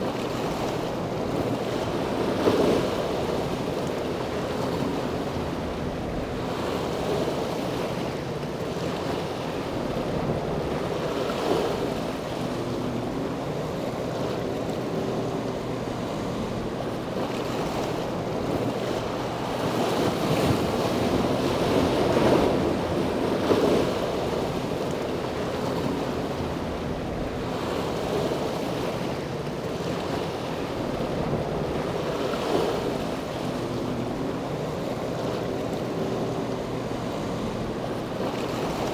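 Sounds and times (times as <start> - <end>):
low engine drone: 0.0 - 38.9.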